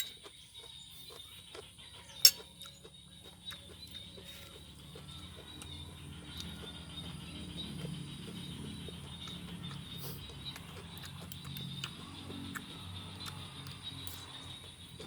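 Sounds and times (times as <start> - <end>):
chewing crunchy vegetables: 0.0 - 15.0.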